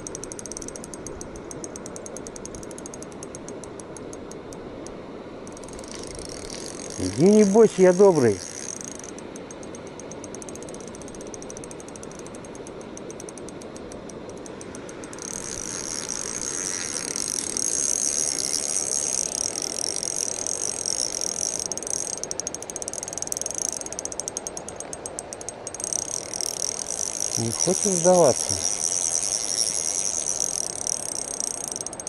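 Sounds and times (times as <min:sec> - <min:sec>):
fishing reel drag clicking: 0:00.0 - 0:32.0
river rushing: 0:04.9 - 0:32.0.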